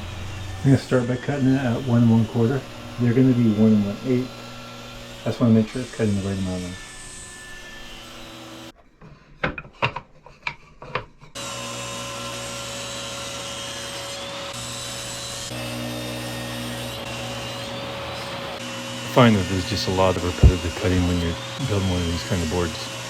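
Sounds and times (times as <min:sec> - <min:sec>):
power saw cutting wood: 0:00.0 - 0:08.8, 0:11.3 - 0:23.0.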